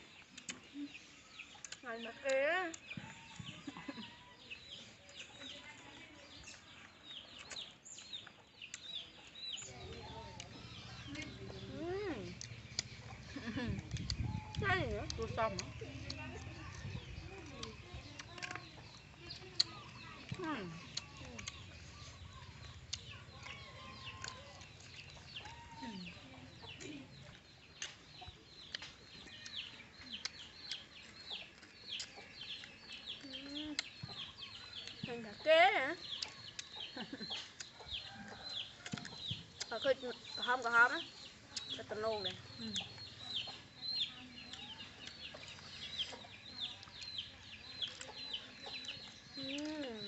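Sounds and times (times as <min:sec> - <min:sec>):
chickens clucking: 0:06.4 - 0:50.0.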